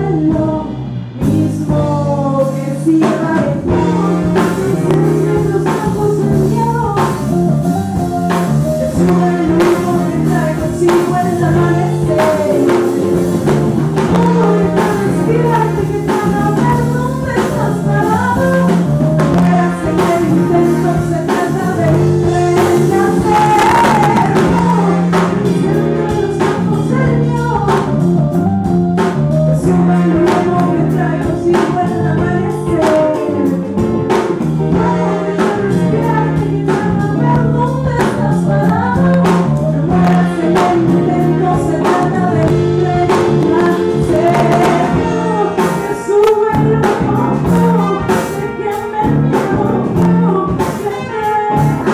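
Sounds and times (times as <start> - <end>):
drum kit beat: 0.0 - 51.9
electric bass: 0.0 - 51.9
woman singing: 0.0 - 51.9.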